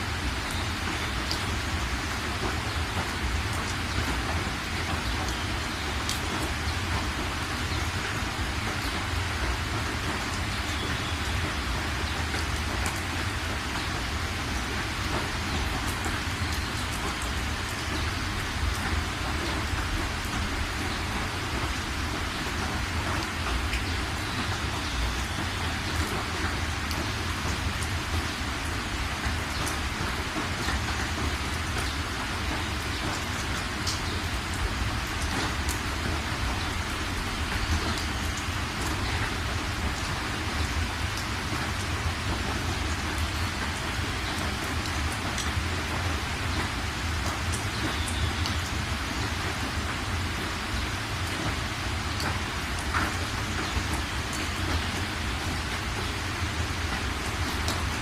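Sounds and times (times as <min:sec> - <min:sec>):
rain hissing: 0:00.0 - 0:58.0
rain drop ticks: 0:00.1 - 0:58.0.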